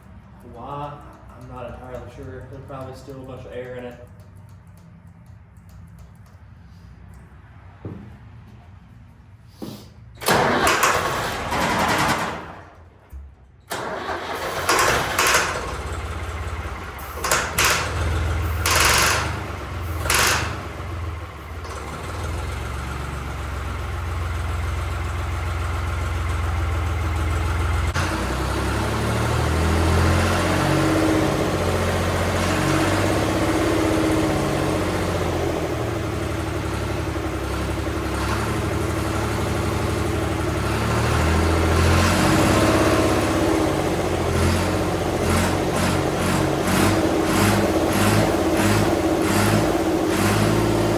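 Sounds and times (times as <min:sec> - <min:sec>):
tractor diesel engine starting: 0:10.1 - 0:50.9.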